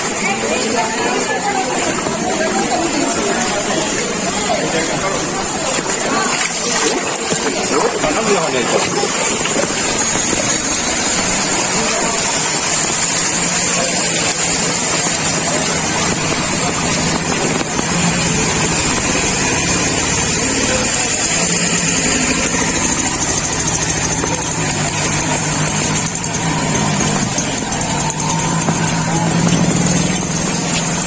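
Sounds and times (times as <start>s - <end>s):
motor engine running: 0.0s - 31.0s.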